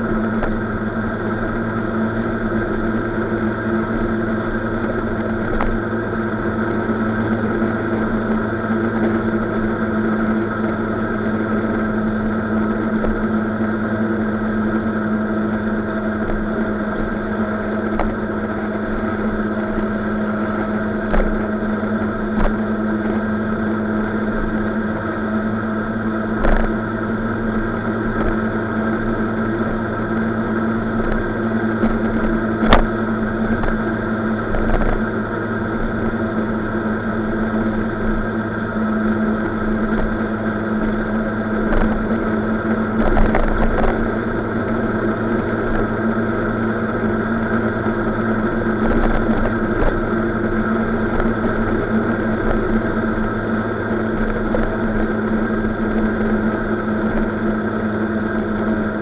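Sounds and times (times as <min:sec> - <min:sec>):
scooter engine running: 0:00.0 - 0:59.0
wind and road noise: 0:00.0 - 0:59.0.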